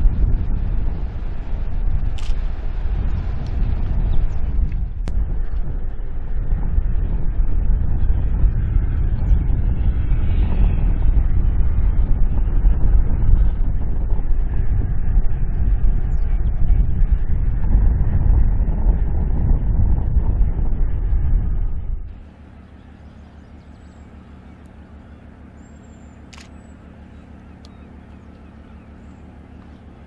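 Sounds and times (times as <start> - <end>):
diesel engine rough rumble: 0.0 - 30.0.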